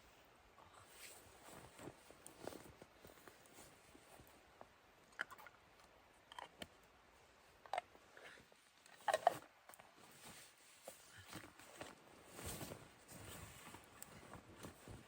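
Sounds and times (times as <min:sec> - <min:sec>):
rustles and clicks of handled gear: 0:00.8 - 0:06.8, 0:07.6 - 0:15.0.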